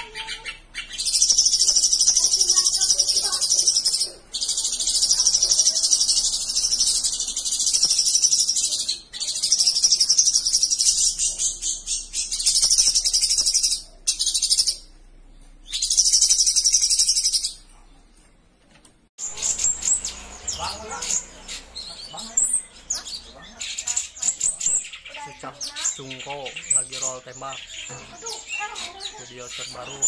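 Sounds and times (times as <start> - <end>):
songbird singing chattering phrases: 0.0 - 18.1, 19.2 - 30.0
different bird singing: 0.0 - 18.2, 19.2 - 30.0.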